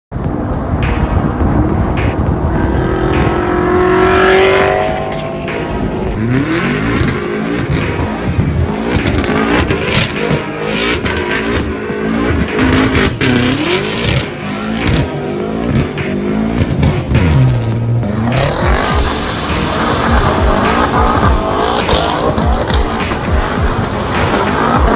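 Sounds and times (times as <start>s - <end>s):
car engine revving: 0.1s - 24.9s.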